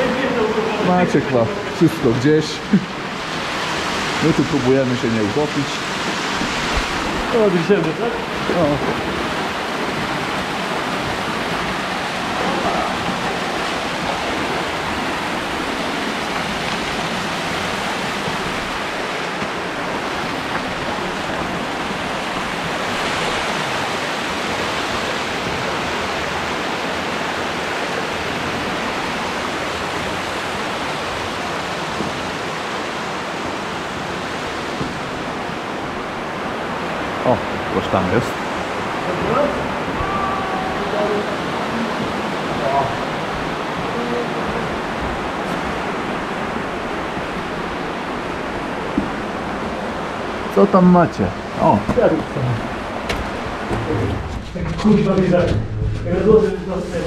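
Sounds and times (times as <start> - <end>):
underground river rushing: 0.0 - 57.0.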